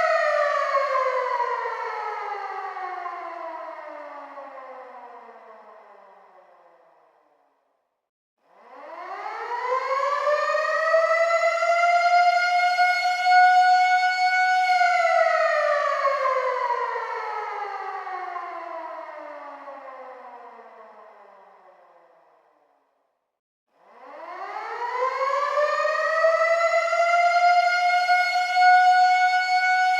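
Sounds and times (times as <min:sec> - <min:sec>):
air raid siren wailing: 0:00.0 - 0:06.4, 0:08.7 - 0:21.9, 0:23.9 - 0:29.9.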